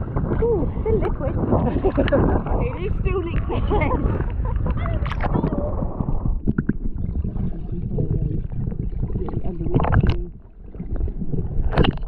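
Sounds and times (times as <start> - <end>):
muffled water sloshing and gurgling: 0.0 - 12.0.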